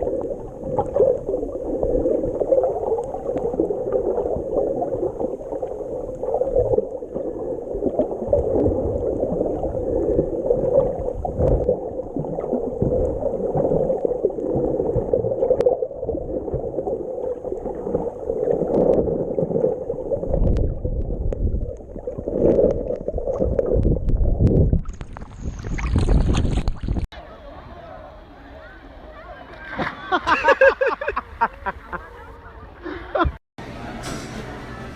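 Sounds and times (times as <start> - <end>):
muffled rushing gurgling water: 0.0 - 33.3.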